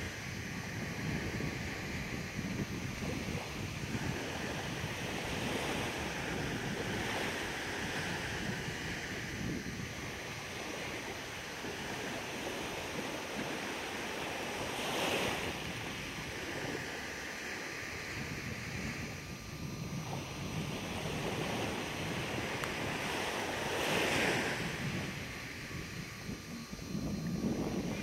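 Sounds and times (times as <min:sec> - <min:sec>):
small waves washing on sand: 0:00.0 - 0:28.0
wind on microphone: 0:00.0 - 0:28.0.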